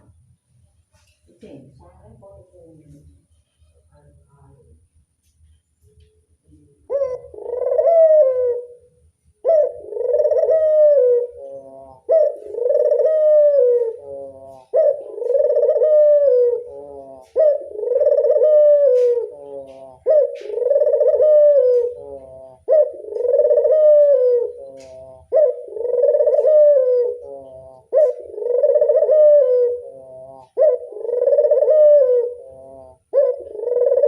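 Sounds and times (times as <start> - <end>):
dove cooing: 6.7 - 34.0.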